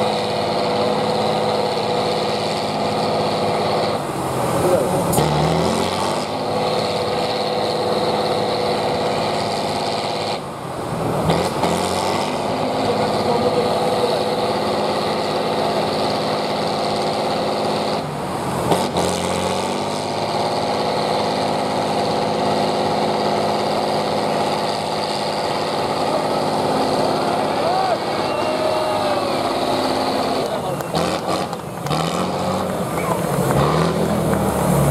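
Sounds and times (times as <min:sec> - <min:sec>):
truck engine revving: 0:00.0 - 0:34.9.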